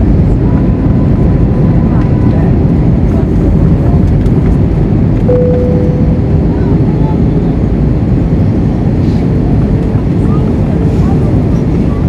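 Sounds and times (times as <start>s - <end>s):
jet engines rumbling: 0.0s - 12.0s
steady whine: 0.0s - 12.0s.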